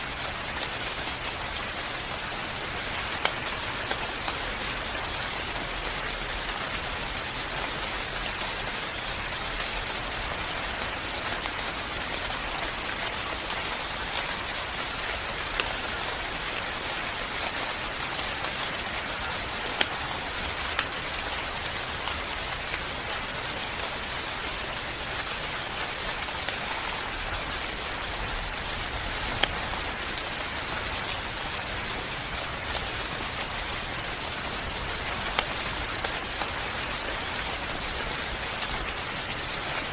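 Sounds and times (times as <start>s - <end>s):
raindrops ticking: 0.0s - 39.9s
steady rain hissing: 0.0s - 39.9s.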